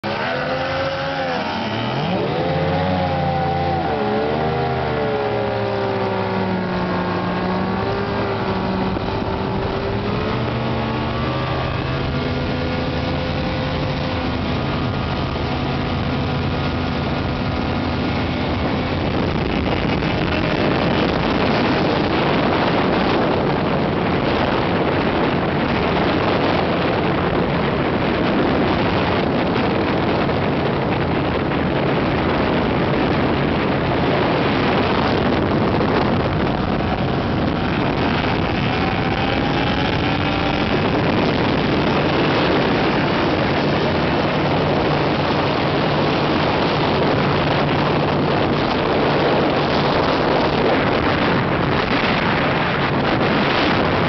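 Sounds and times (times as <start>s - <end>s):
outboard motors running: 0.0s - 54.0s
rush of water and wind: 0.0s - 54.0s.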